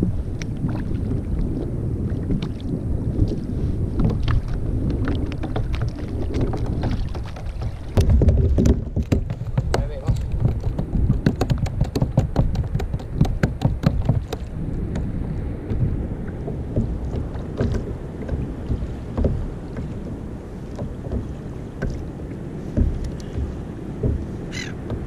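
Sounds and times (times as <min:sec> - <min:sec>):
water lapping against hull: 0:00.0 - 0:25.0
wind on microphone: 0:00.0 - 0:25.0.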